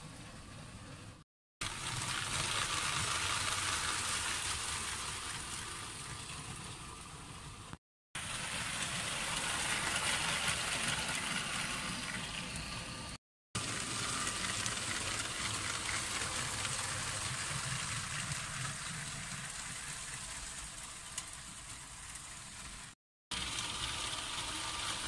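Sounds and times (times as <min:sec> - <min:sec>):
toy train rattling on track: 0:01.6 - 0:07.2, 0:08.3 - 0:12.7, 0:13.6 - 0:25.0.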